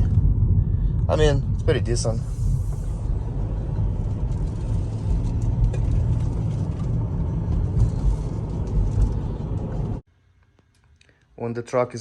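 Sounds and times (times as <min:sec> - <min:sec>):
diesel truck engine rumble: 0:00.0 - 0:10.1.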